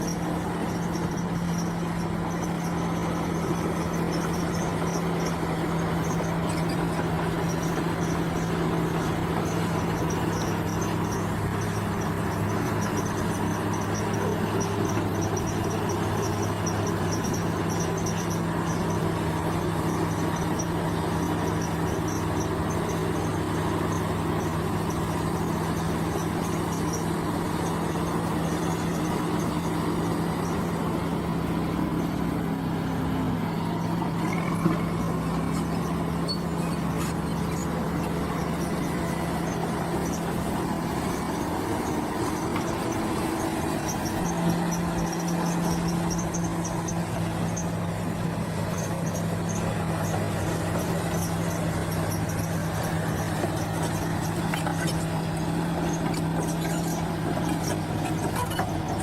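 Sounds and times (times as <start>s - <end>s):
diesel engine running: 0.0s - 59.0s
insects chirping: 0.0s - 59.0s.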